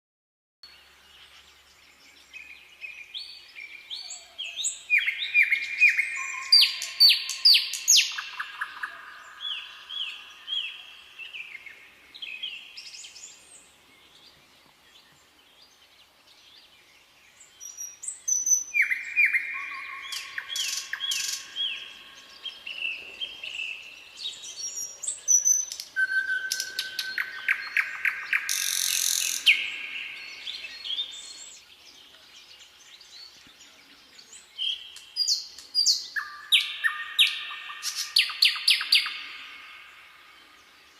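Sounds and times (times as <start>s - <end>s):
songbirds chirping and trilling: 0.6s - 40.9s.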